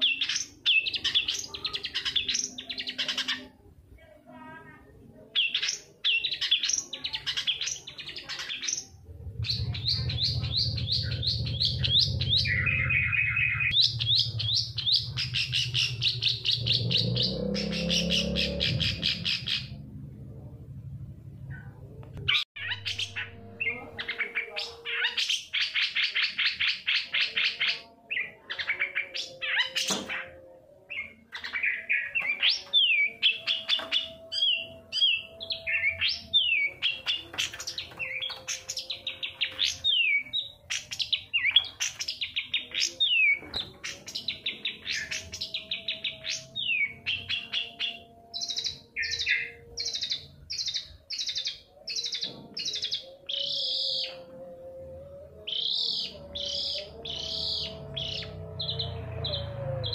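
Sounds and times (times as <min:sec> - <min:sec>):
bird singing trills and whistles: 0:00.0 - 0:03.6, 0:05.3 - 0:19.8, 0:22.3 - 0:59.9.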